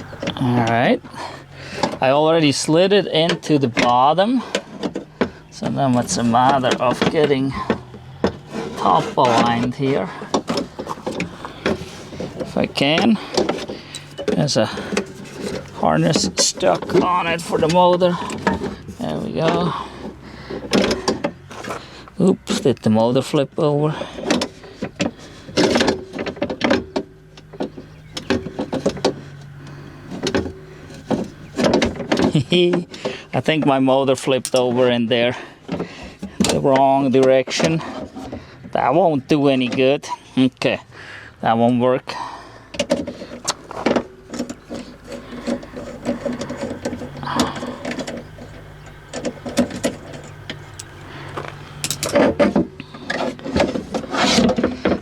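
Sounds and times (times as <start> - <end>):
knocks and clatter of window parts: 0.0 - 22.7, 23.9 - 40.2, 42.7 - 55.0
low steady hum: 0.0 - 55.0.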